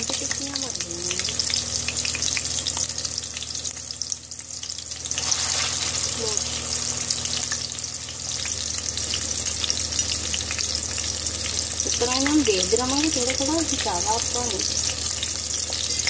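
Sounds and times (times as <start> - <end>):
patties sizzling in oil: 0.0 - 16.0.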